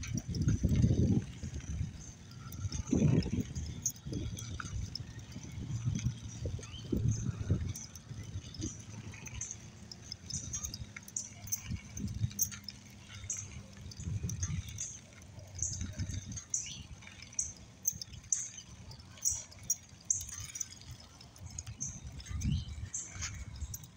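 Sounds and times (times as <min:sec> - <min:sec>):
wind on microphone: 0:00.0 - 0:23.9.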